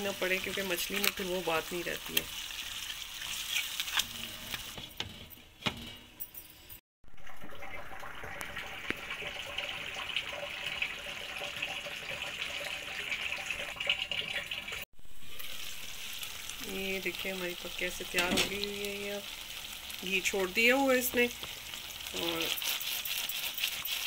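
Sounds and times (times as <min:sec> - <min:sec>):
curry bubbling and sizzling: 0:00.0 - 0:05.1, 0:07.0 - 0:24.0.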